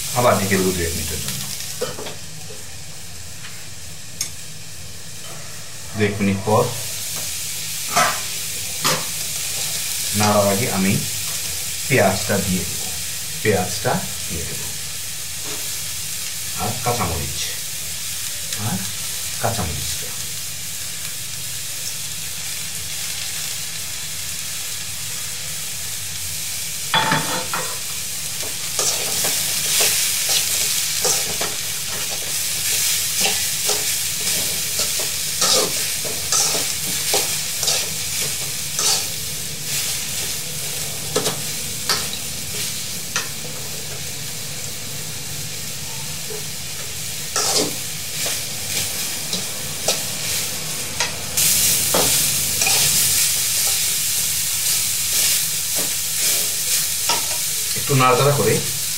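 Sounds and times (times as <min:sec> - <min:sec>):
vegetables sizzling in a metal pan: 0:00.0 - 0:58.9.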